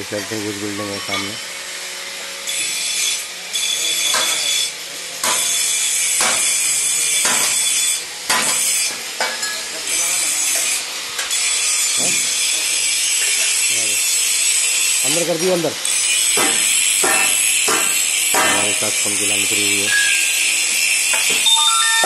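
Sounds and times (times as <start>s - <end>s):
power tool grinding: 0.0s - 9.2s, 9.8s - 21.6s.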